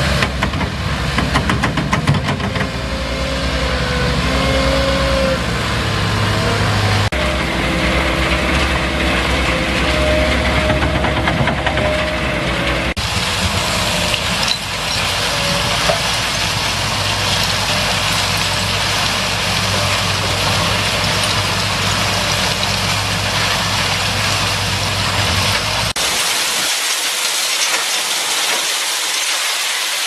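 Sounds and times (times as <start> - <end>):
engine hum: 0.0 - 26.1.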